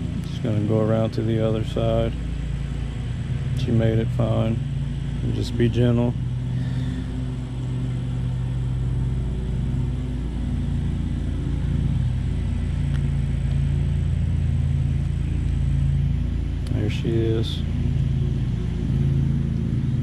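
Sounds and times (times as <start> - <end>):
honeybees humming: 0.0 - 20.0.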